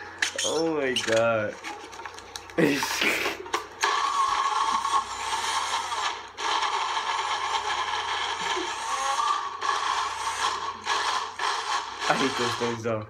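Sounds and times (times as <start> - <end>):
blender motor whirring: 0.0 - 13.0.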